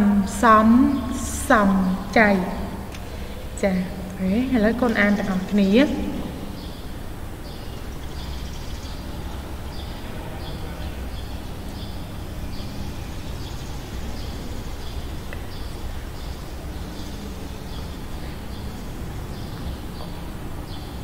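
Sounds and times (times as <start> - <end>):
low background noise: 0.0 - 21.0
small birds chirping: 0.7 - 21.0.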